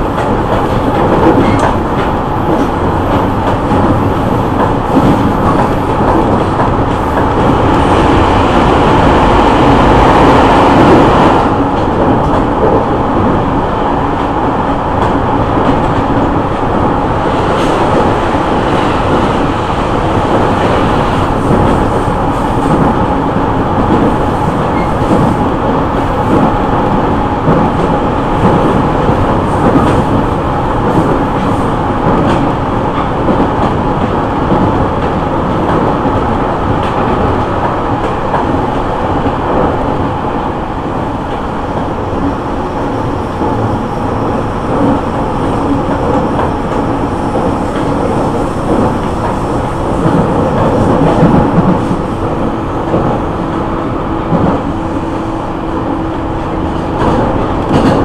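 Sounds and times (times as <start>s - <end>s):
oncoming train passing: 0.0s - 58.0s
wheels rumbling on rails: 0.0s - 58.0s.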